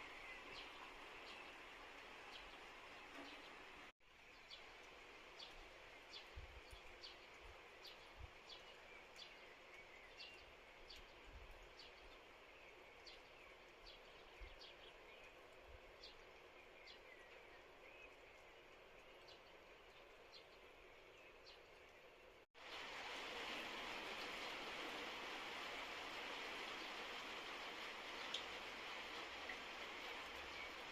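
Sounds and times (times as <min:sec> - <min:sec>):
outdoor background noise: 0:00.0 - 0:30.9.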